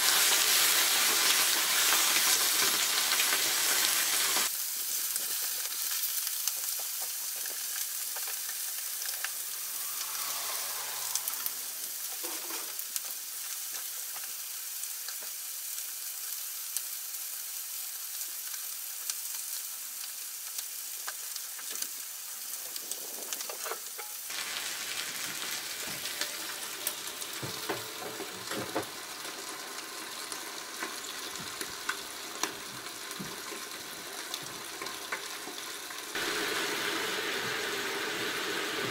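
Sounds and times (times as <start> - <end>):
chicken sizzling in a pan: 0.0 - 38.9.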